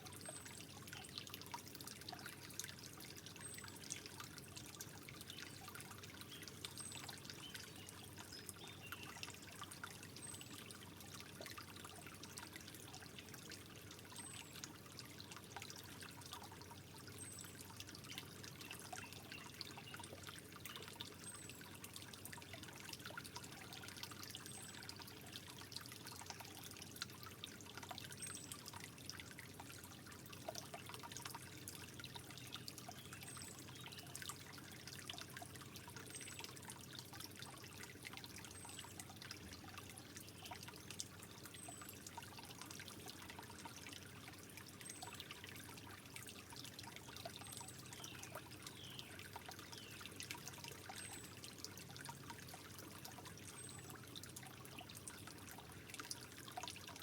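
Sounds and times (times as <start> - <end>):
water drips: 0.0 - 57.0
water trickling: 0.0 - 57.0.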